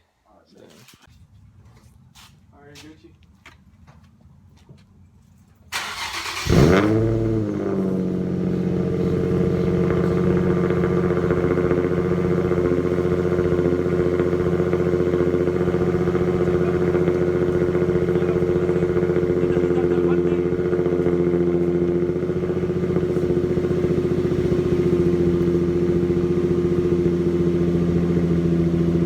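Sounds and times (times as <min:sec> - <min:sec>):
car engine starting and idling: 0:05.5 - 0:29.0.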